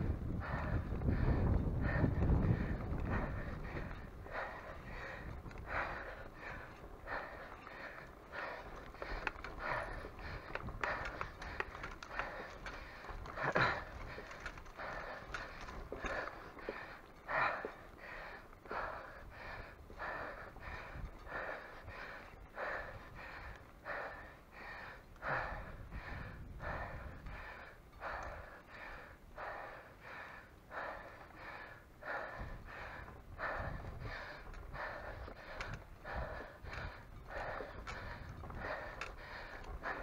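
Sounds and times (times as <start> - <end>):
person breathing hard: 0.0 - 40.0.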